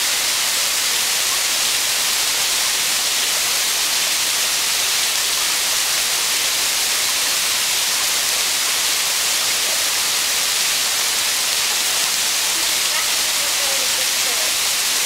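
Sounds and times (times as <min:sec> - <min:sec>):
waterfall hissing: 0:00.0 - 0:15.0.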